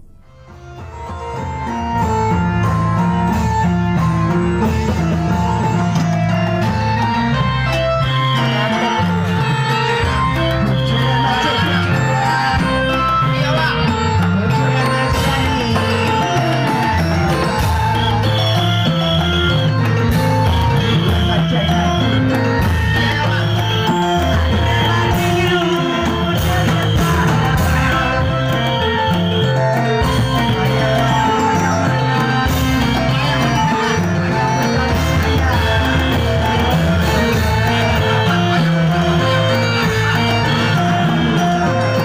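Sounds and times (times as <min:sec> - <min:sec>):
loud live dance music: 0:00.0 - 0:42.0.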